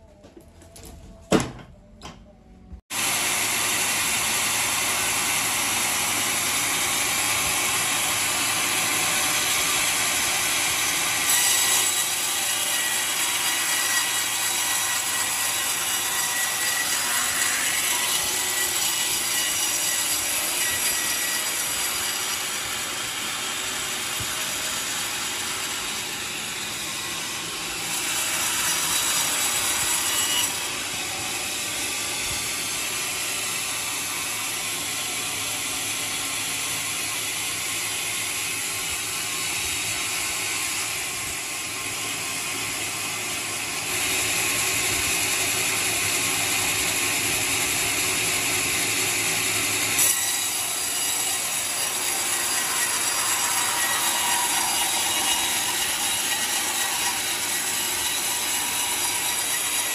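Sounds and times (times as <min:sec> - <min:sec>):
band saw cutting wood: 0:02.9 - 0:59.9.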